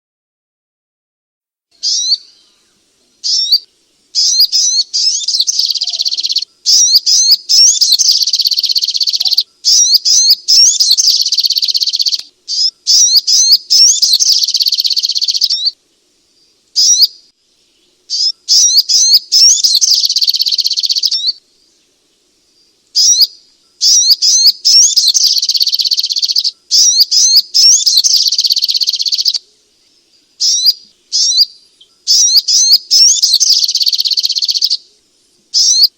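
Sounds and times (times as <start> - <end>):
bird high-pitched chattering song: 1.8 - 2.5, 3.2 - 15.8, 16.8 - 17.3, 18.1 - 21.4, 23.0 - 29.4, 30.0 - 34.9, 35.5 - 35.9.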